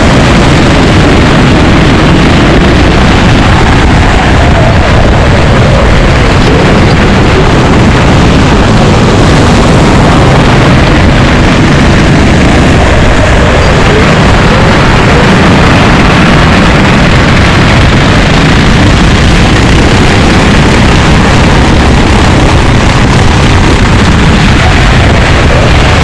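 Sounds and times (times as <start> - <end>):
kart engine: 0.0 - 26.0
wind on microphone: 0.0 - 26.0.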